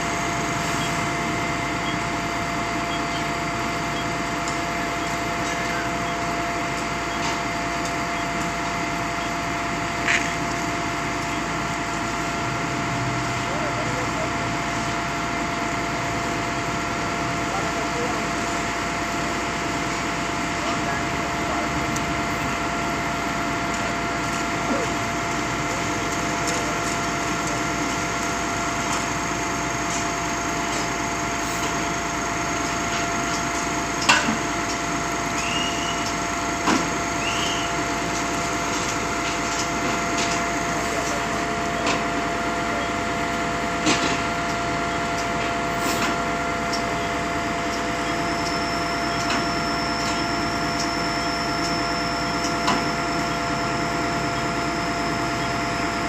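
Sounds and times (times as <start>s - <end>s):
pump machinery humming and whining: 0.0s - 56.0s.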